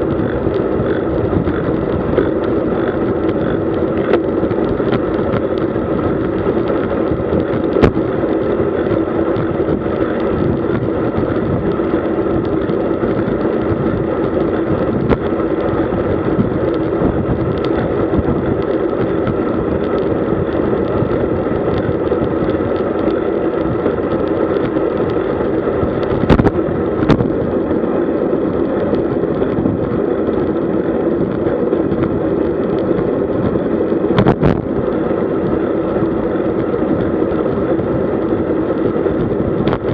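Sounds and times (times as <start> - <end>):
bicycle tyre noise: 0.0 - 39.9
wind rush: 0.0 - 39.9.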